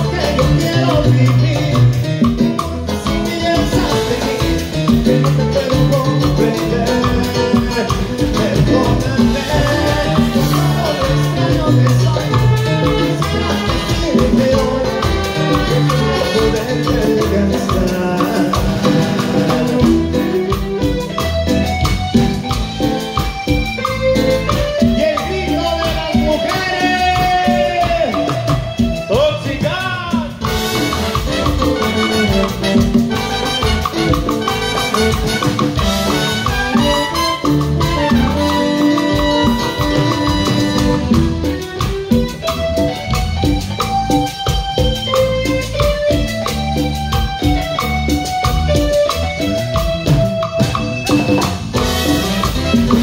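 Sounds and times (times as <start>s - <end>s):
live band playing dance music: 0.0s - 53.0s.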